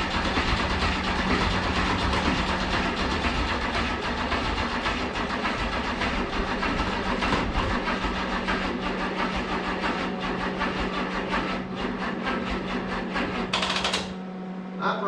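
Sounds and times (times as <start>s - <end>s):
engine cranking over by starter: 0.0s - 14.2s.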